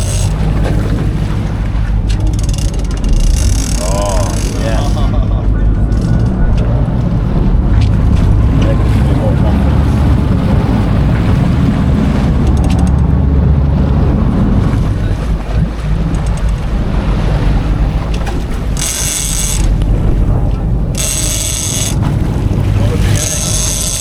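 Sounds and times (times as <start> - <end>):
sea and rain noise: 0.0 - 24.0
strong wind buffeting microphone: 0.0 - 24.0.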